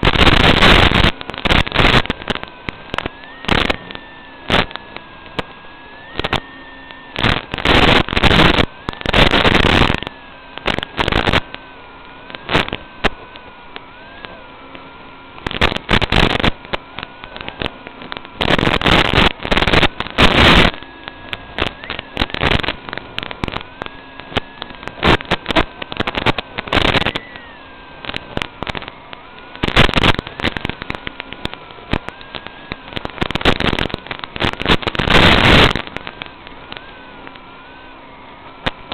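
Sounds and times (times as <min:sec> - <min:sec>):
faint wavering whine: 0:00.0 - 0:38.9
loud static crackle bursts: 0:00.0 - 0:38.9
steady radio hiss: 0:00.0 - 0:38.9.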